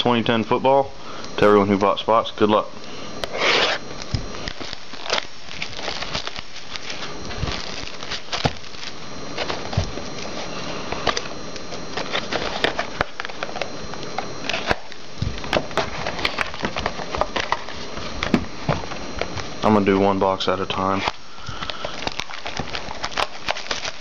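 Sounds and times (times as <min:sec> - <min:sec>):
plastic wrap crackling: 0:03.2 - 0:19.7, 0:20.9 - 0:24.0.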